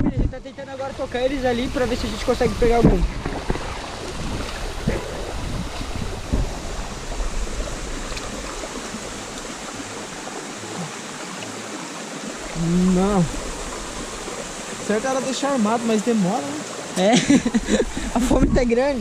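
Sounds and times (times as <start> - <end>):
stream water running over rocks: 0.1 - 19.0.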